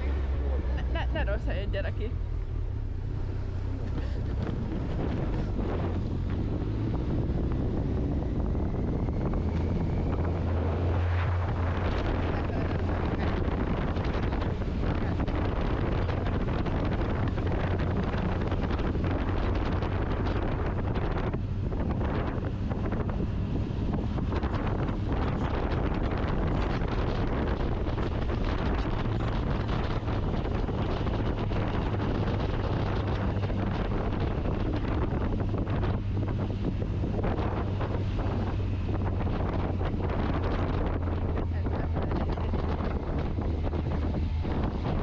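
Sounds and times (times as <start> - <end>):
motorcycle engine drone: 0.0 - 45.0
wind rushing over microphone: 0.0 - 45.0.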